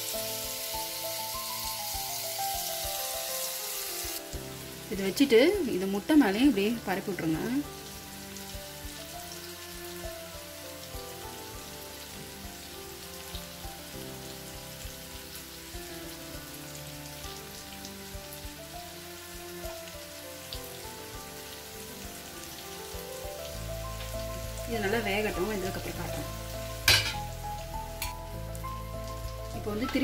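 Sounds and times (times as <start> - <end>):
oil sizzling in a frying pan: 0.0 - 30.0.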